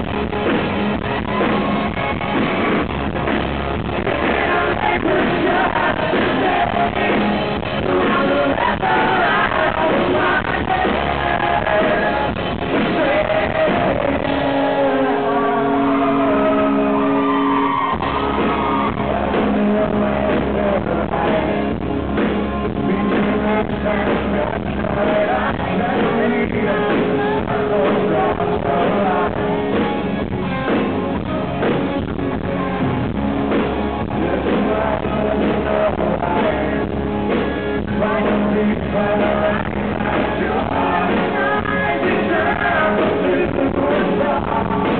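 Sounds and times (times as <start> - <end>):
live rock band: 0.0 - 44.9
man singing: 3.8 - 17.2, 18.0 - 29.8, 34.0 - 44.9.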